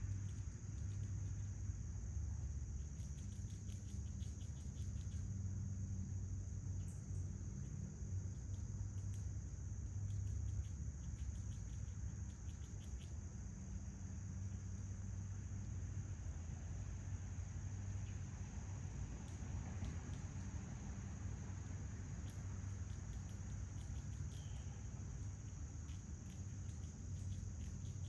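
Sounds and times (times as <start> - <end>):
crickets chirping: 0.0 - 28.0
steady low hum: 0.0 - 28.0.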